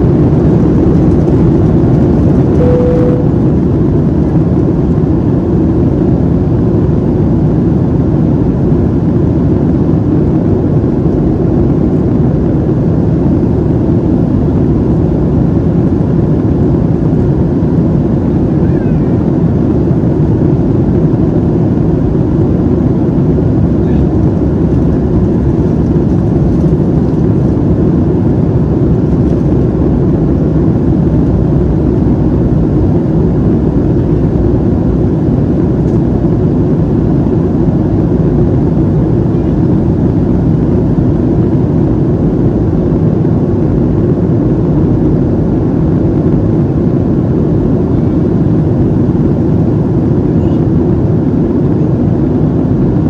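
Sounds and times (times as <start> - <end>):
airplane cabin drone: 0.0 - 53.0.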